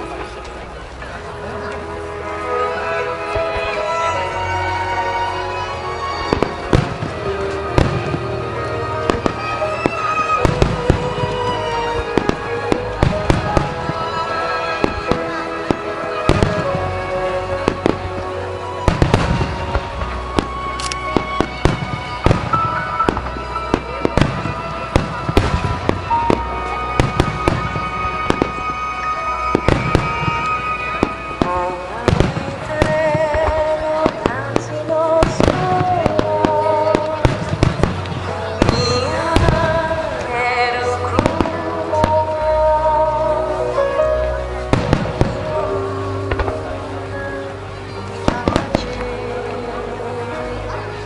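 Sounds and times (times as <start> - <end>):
music playing: 0.0 - 51.0
fireworks booming and crackling: 5.5 - 51.0.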